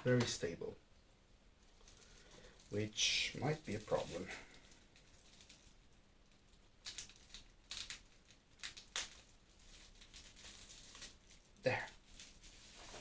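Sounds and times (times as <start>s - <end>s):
faint plastic rustles and clicks: 0.0s - 13.0s.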